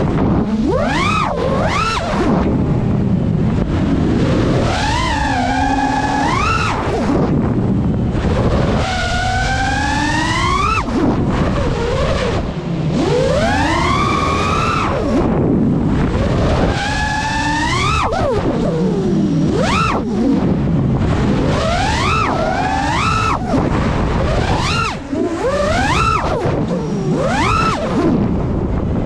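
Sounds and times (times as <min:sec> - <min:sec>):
drone motors whining: 0:00.0 - 0:29.0
rush of wind: 0:00.0 - 0:29.0.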